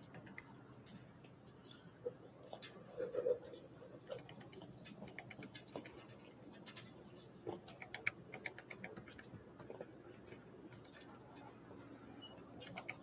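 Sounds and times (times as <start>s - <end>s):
birds pecking and tapping: 0.0s - 11.6s, 12.4s - 13.0s.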